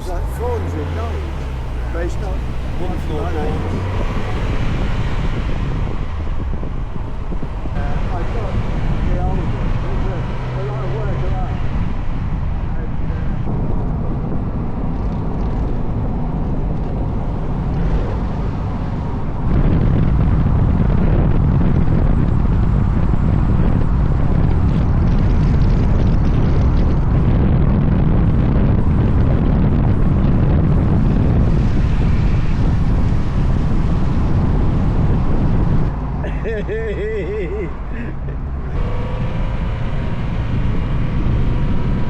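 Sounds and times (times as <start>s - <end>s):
car engine and road rumble: 0.0s - 42.0s
wind noise: 0.0s - 42.0s.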